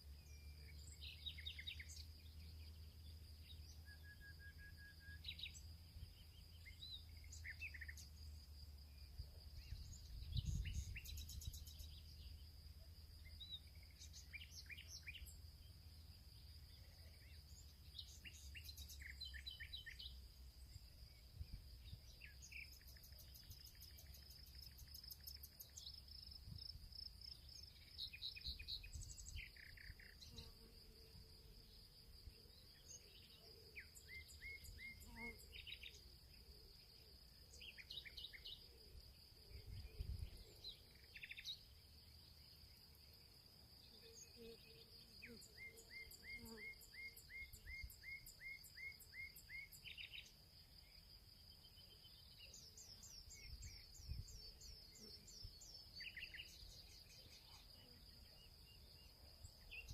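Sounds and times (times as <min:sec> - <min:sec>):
songbirds calling: 0:00.0 - 0:30.6, 0:31.6 - 0:43.2, 0:43.8 - 0:59.9
insect trill: 0:00.0 - 0:59.9.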